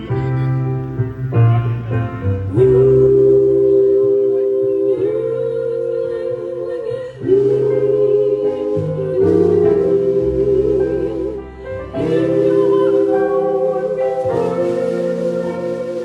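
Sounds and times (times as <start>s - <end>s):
low accompaniment notes: 0.0s - 16.0s
gospel group singing in harmony: 2.2s - 16.0s.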